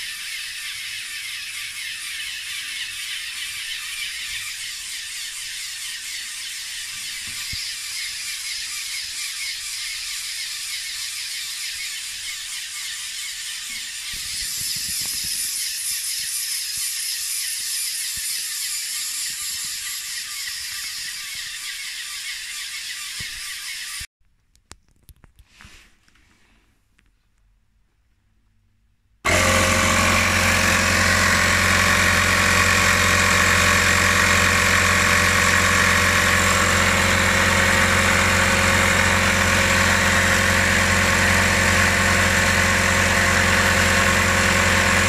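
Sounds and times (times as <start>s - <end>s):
small electric pumps buzzing: 0.0s - 24.1s, 29.3s - 45.0s.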